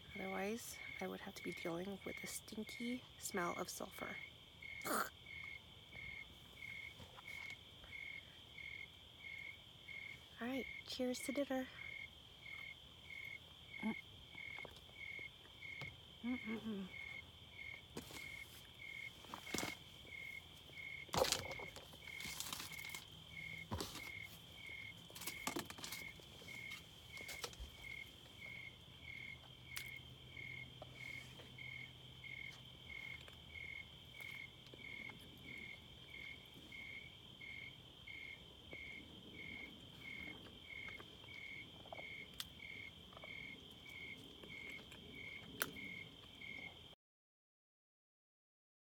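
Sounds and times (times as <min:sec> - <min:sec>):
night insects chirping: 0:00.0 - 0:47.0
high insect trill: 0:02.1 - 0:46.9.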